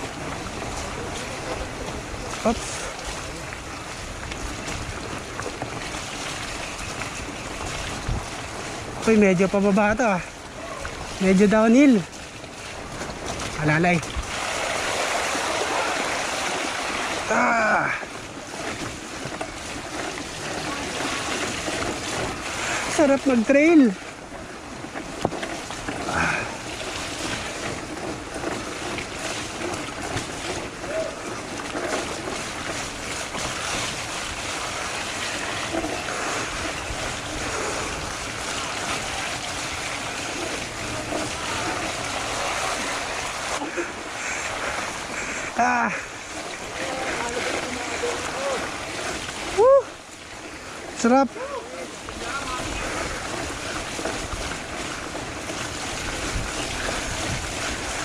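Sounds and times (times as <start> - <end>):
bike tyres rolling on mud: 0.0 - 58.0
wind rushing over microphone: 0.0 - 58.0.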